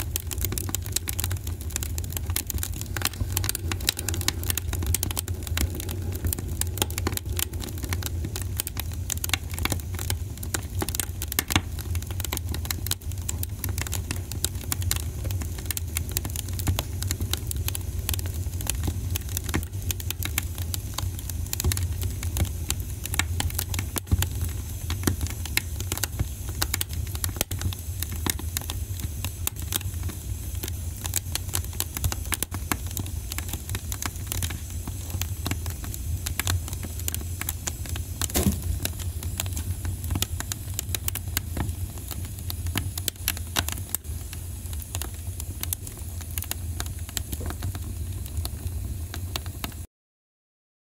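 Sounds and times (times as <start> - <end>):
steady low hum: 0.0 - 48.5.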